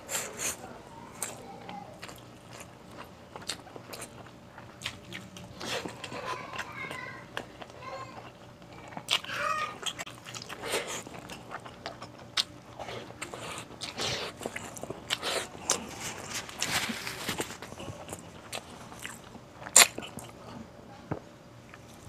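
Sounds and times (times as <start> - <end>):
wet chewing and mouth smacking: 1.2 - 20.6.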